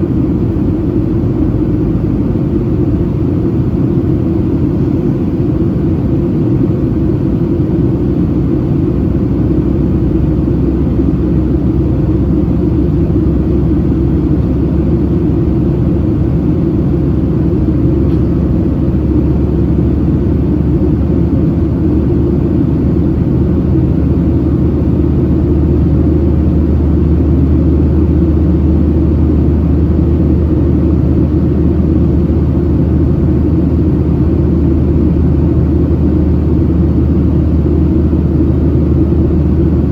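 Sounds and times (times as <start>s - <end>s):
airplane cabin engine rumble: 0.0s - 39.9s
faint steady hum: 0.0s - 39.9s.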